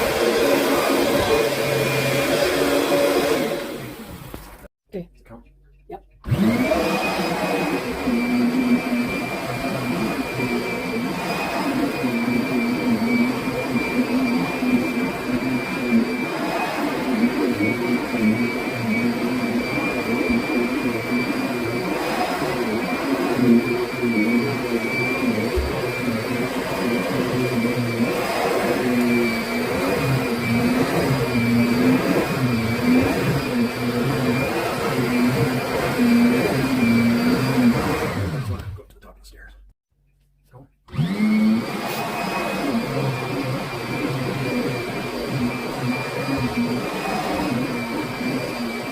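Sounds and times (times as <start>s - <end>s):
upright vacuum cleaner running: 0.0s - 4.7s, 6.3s - 38.6s, 40.9s - 48.9s.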